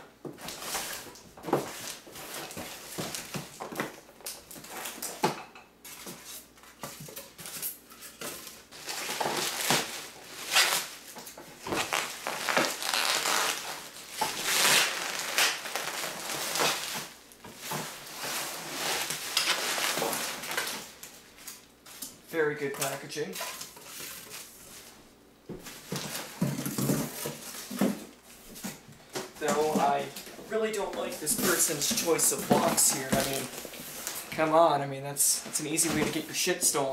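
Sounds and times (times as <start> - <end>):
styrofoam packing scraping and knocking: 0.2 - 5.3, 5.9 - 22.1, 25.6 - 34.5, 35.4 - 36.3
bubble wrap rustling: 0.4 - 5.2, 5.8 - 25.0, 25.6 - 36.9.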